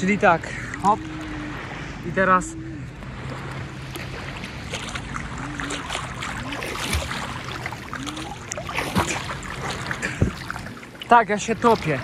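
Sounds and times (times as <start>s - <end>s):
sea water splashing: 0.0s - 12.0s.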